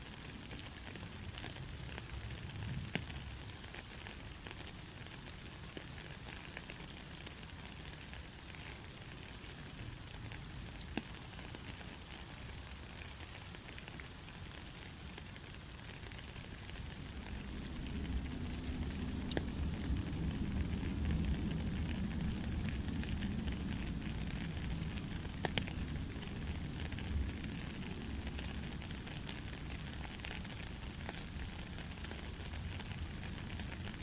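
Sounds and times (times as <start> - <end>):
rain falling: 0.0 - 34.0
raindrop clicks: 5.7 - 34.0.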